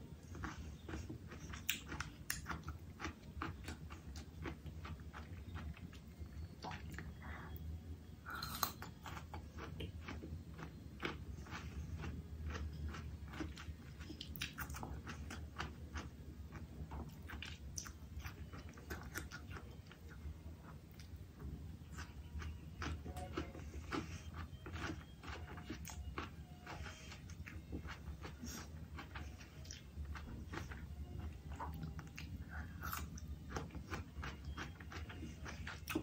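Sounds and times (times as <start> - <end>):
person chewing crunchy food: 0.1 - 7.6, 8.2 - 36.0.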